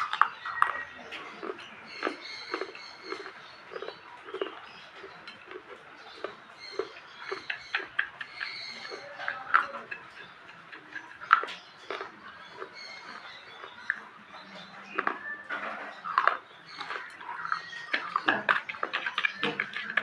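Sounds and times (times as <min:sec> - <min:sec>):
crunching and chewing: 0:00.0 - 0:20.0.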